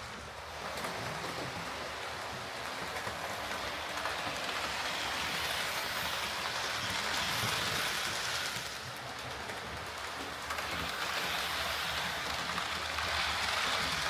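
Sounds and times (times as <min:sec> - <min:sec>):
model train whirring and rattling: 0:00.0 - 0:14.0.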